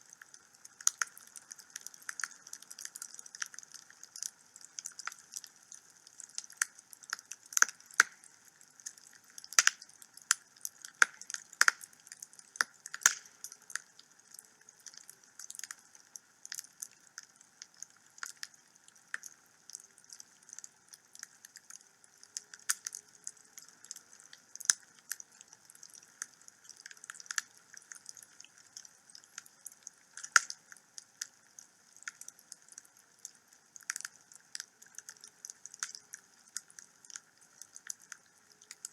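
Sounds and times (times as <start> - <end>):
faint steady hiss: 0.0 - 38.9
wood fire crackling and popping: 0.0 - 38.9.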